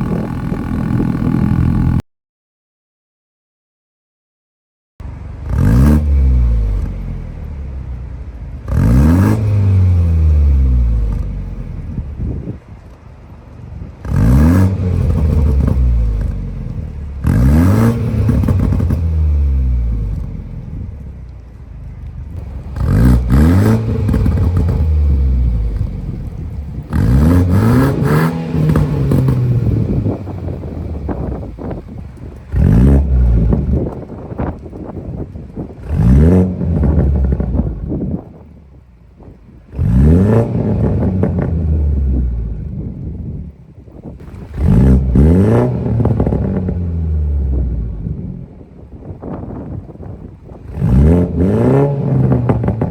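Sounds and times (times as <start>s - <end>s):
car engine revving: 0.0s - 2.0s, 5.0s - 52.9s.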